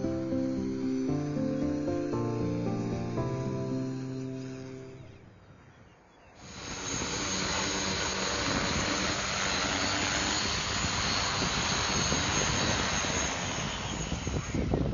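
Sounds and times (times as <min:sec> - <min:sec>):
drone rotors running: 0:00.0 - 0:14.9
faint high whine: 0:00.0 - 0:14.9.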